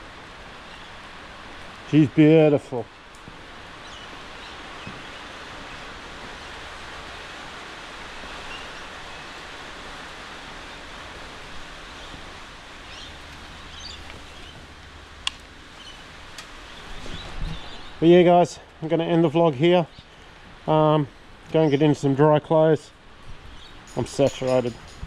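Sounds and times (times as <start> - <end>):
rain hissing: 0.0 - 22.2.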